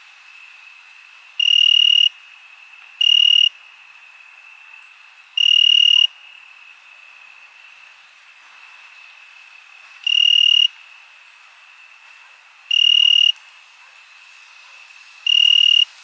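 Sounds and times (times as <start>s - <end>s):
cricket trilling: 0.0s - 16.0s
crickets chirping: 0.0s - 16.0s.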